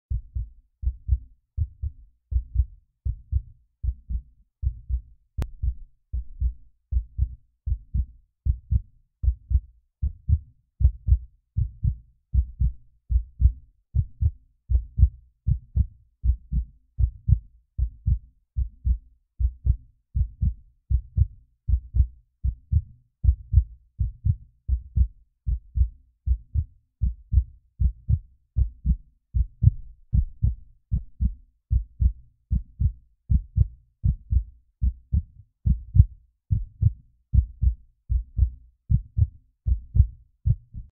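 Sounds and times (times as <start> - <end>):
heartbeat thumps: 0.1 - 40.9.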